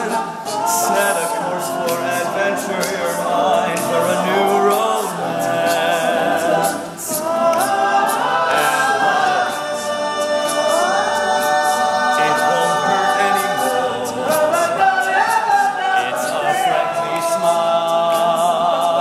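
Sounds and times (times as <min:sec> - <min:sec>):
men's a cappella harmony singing: 0:00.0 - 0:19.0.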